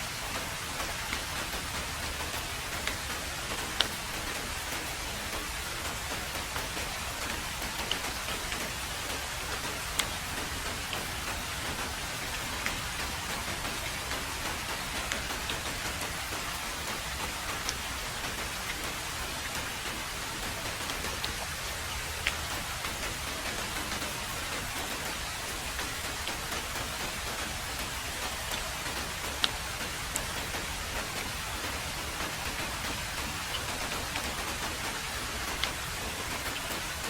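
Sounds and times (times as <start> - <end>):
heavy rain on a road: 0.0 - 37.0
raindrops ticking: 0.0 - 37.0.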